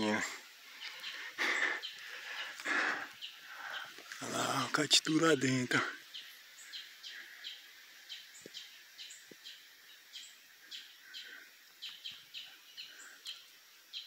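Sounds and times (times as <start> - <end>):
steady background hiss: 0.0 - 14.0
small bird chirping: 0.1 - 14.0.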